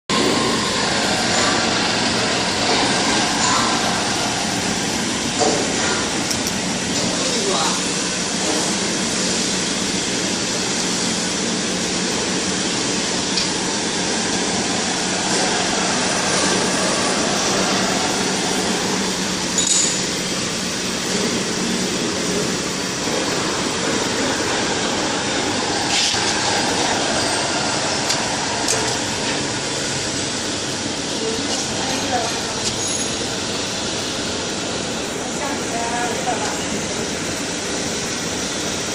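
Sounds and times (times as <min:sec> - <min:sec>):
knife sharpening machine running: 0:00.1 - 0:38.9.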